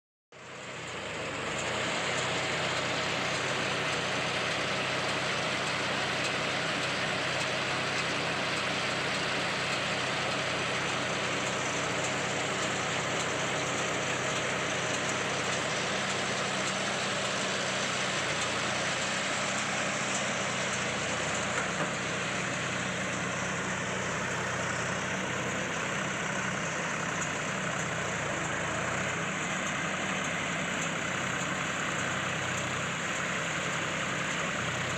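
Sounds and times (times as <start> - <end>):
round baler mechanical noise: 0.4 - 34.9
tractor engine running: 0.4 - 34.9.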